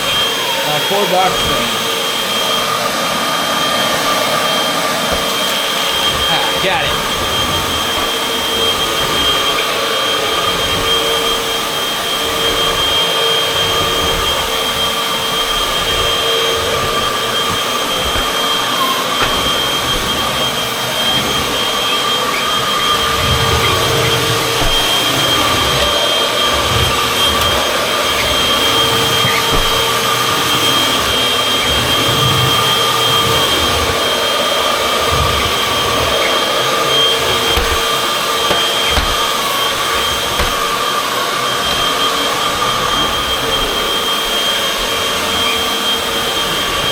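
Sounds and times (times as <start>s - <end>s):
vacuum cleaner motor whine: 0.0s - 46.9s.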